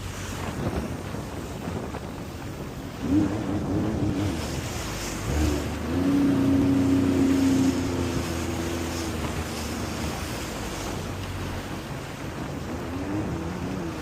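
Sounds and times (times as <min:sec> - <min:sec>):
jet ski engine: 0:00.0 - 0:14.0.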